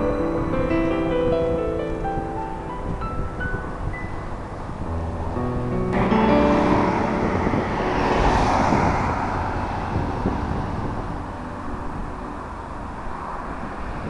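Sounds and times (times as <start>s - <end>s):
car passing: 0.1s - 14.0s.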